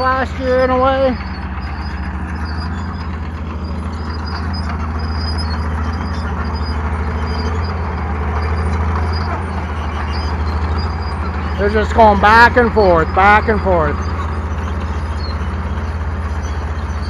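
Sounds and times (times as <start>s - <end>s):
bulldozer diesel engines running: 0.0s - 17.0s.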